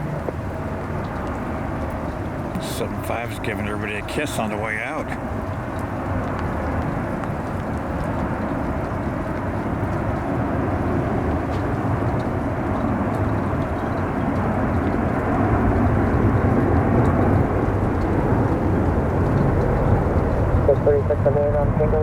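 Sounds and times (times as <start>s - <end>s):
jet airliner engine rushing: 0.0s - 22.0s.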